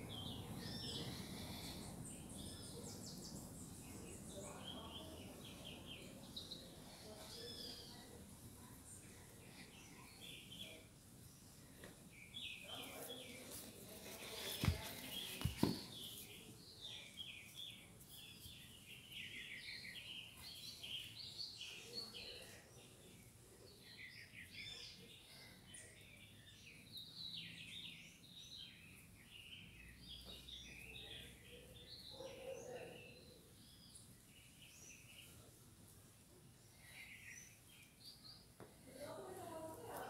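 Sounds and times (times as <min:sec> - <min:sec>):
low outdoor background noise: 0:00.0 - 0:40.0.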